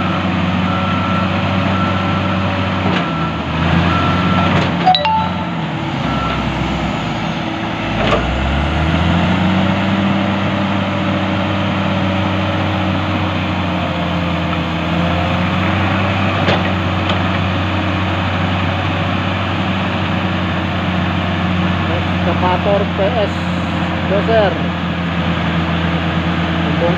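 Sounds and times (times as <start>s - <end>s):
heavy diesel engines running: 0.0s - 26.9s.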